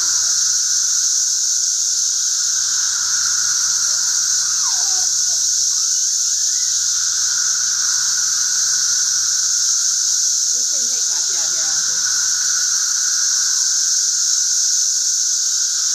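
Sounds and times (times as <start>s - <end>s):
cicadas droning: 0.0s - 15.9s.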